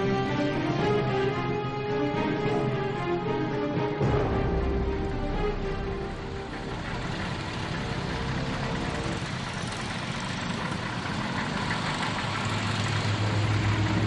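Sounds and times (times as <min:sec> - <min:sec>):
military vehicle engine rumbling: 0:00.0 - 0:14.0.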